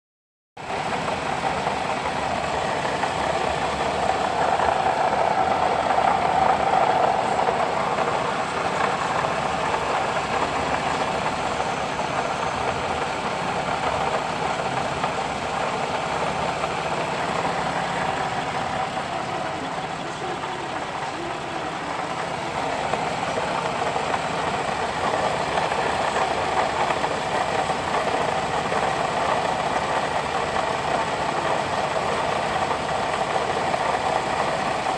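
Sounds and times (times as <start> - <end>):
abnormal mechanical noise: 0.6 - 34.9
car engine idling: 0.6 - 34.9.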